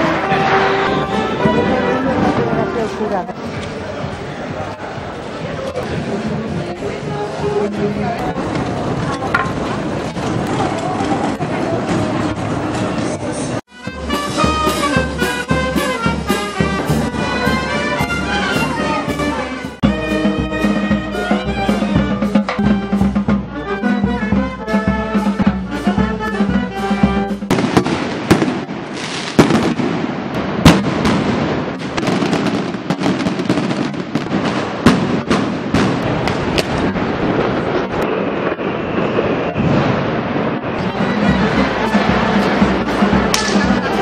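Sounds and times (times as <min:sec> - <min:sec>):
firecrackers banging: 0:00.0 - 0:23.6, 0:24.7 - 0:44.0
street band of clarinets and brass: 0:00.0 - 0:44.0.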